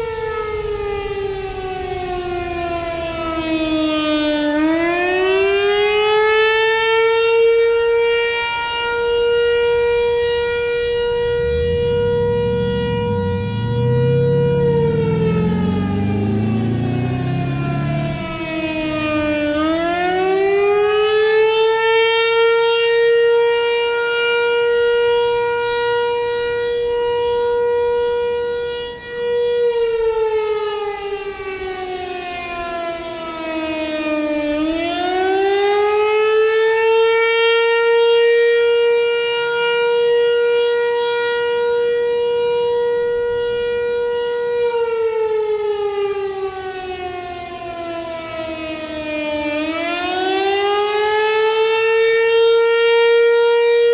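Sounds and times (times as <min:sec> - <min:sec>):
warning siren rising and falling: 0:00.0 - 0:53.9.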